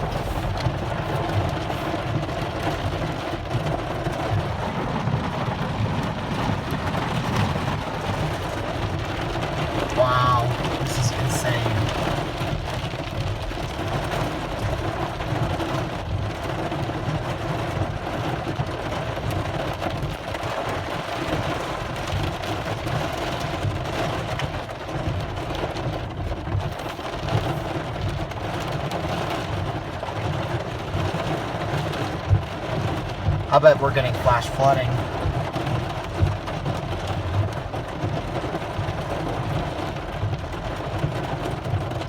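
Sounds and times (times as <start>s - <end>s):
heavy rain on a car: 0.0s - 42.0s.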